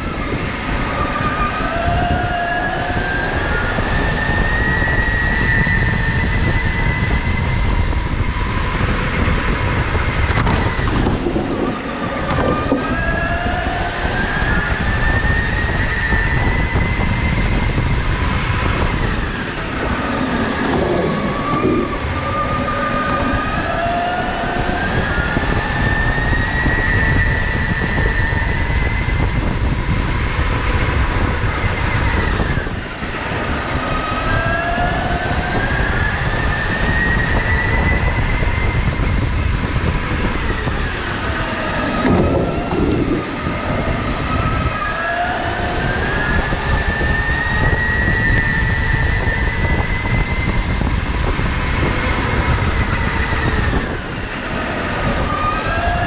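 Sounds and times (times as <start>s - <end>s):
electric motor whining: 0.0s - 56.0s
tyres rumbling on track: 0.0s - 56.0s.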